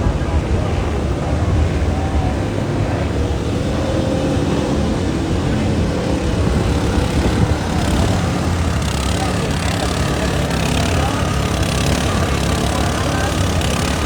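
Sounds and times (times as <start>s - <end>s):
racing motorcycle engine rumble: 0.0s - 14.0s.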